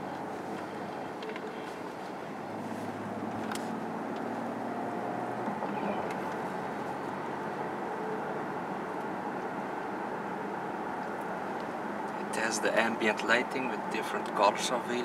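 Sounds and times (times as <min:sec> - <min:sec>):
car cabin road and engine noise: 0:00.0 - 0:15.0.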